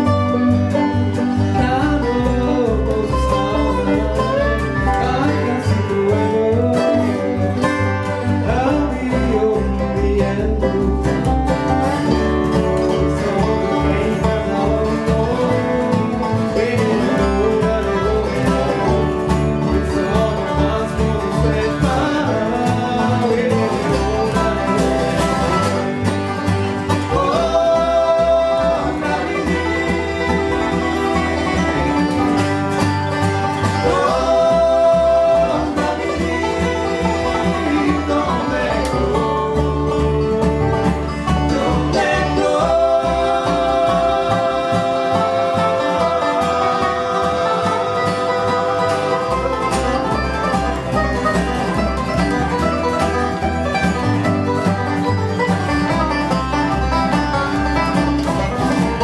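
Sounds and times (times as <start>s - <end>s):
bluegrass band playing: 0.0s - 59.0s
dobro sliding notes: 0.0s - 59.0s
upright bass: 0.0s - 59.0s.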